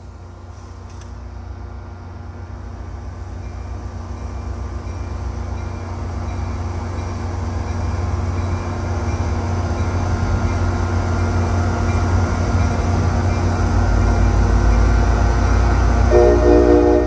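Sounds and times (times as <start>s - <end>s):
diesel train approaching: 0.0s - 17.0s.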